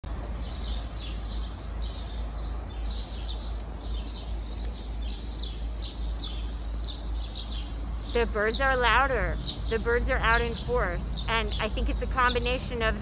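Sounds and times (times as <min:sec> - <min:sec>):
low city background rumble: 0:00.0 - 0:13.0
small songbirds chirping: 0:00.1 - 0:13.0.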